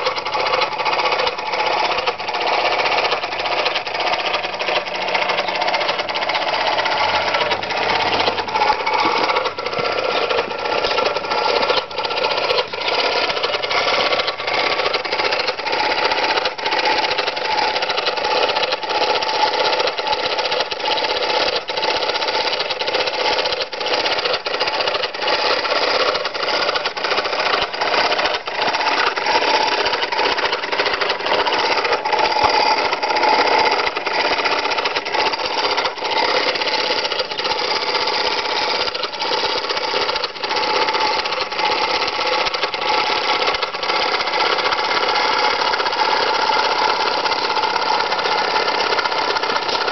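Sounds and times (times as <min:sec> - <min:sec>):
steam engine mechanical clatter: 0:00.0 - 0:49.9.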